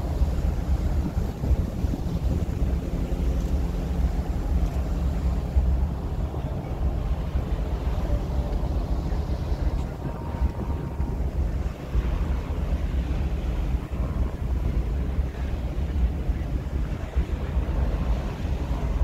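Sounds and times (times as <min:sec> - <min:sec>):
ferry engine rumble: 0:00.0 - 0:19.0
wind buffeting microphone: 0:00.0 - 0:19.0.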